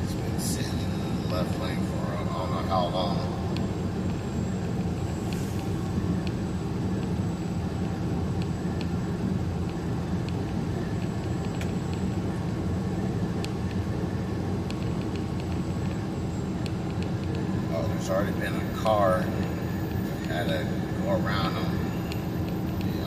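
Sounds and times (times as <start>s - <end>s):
road noise inside cab: 0.0s - 23.0s
truck engine drone: 0.0s - 23.0s.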